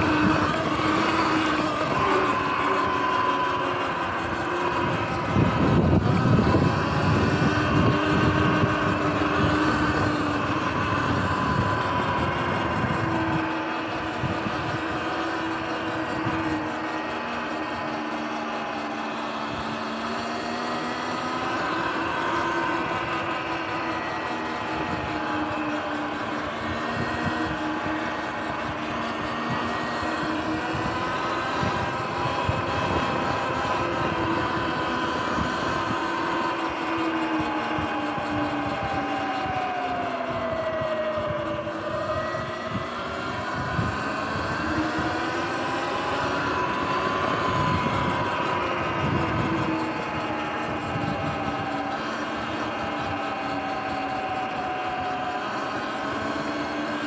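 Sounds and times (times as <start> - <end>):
electric dirt bike motor whining: 0.0 - 57.0
wind rumbling on microphone: 0.0 - 57.0.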